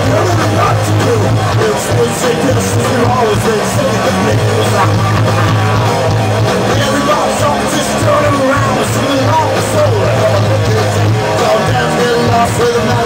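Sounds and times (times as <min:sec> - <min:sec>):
bass guitar: 0:00.0 - 0:13.0
drums: 0:00.0 - 0:13.0
electric guitars: 0:00.0 - 0:13.0.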